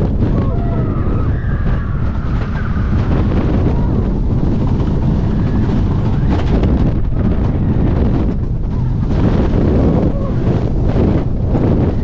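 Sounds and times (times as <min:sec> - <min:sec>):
roller coaster rumbling on track: 0:00.0 - 0:12.0
wind rushing over microphone: 0:00.0 - 0:12.0.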